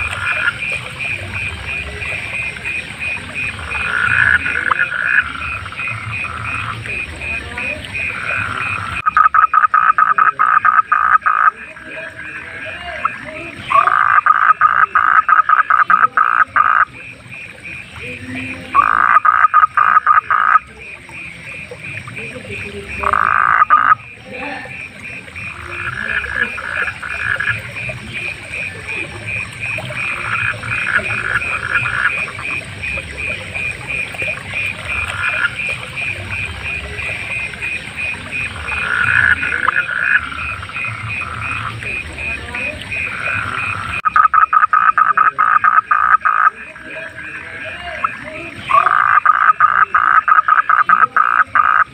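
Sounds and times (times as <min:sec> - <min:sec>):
fast higher frog calls: 0:00.0 - 0:51.9
frogs rattling croaks: 0:00.0 - 0:51.9.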